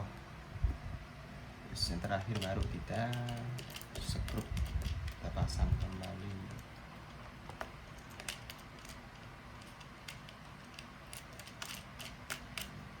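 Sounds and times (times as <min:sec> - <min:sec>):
clock parts clicking and tapping: 0:02.0 - 0:12.8.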